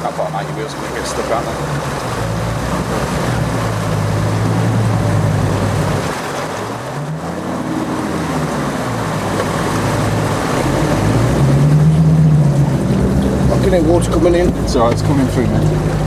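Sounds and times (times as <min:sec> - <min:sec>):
diesel engine under load: 0:00.0 - 0:16.0
rushing splashing water: 0:00.0 - 0:16.0.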